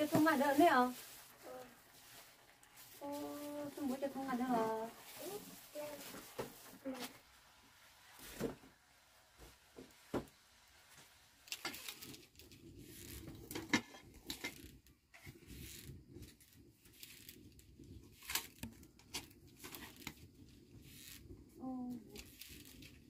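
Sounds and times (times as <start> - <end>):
fire crackling and hissing: 0.0 - 23.0.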